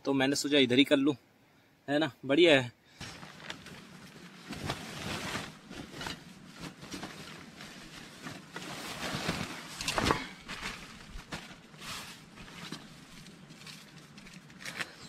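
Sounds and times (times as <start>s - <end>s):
camping gear rustling: 2.9s - 15.0s.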